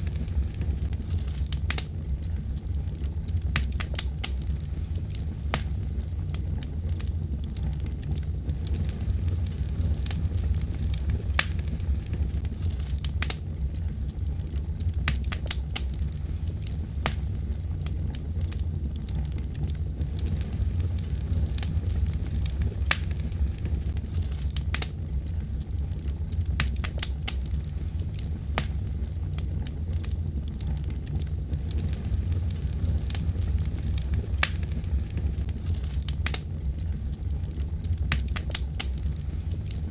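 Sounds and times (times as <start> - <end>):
fire crackling: 0.0 - 39.9
fire pops and snaps: 0.0 - 39.9
low rumble of flames: 0.0 - 39.9.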